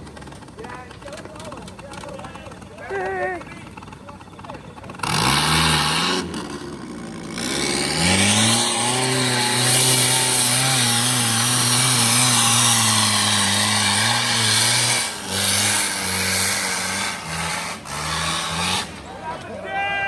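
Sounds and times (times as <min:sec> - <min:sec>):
off-road vehicle engine revving: 0:00.0 - 0:19.7.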